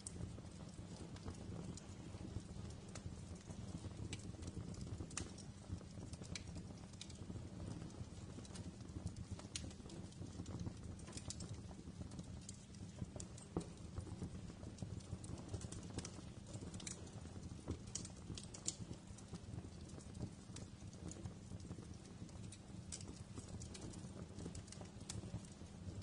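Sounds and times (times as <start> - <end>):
low rumble of burning fire: 0.0 - 26.0
wood fire crackling and popping: 0.0 - 26.0.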